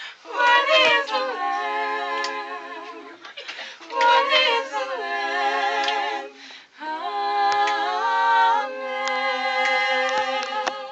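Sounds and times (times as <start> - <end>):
vocal group singing a cappella: 0.0 - 10.9.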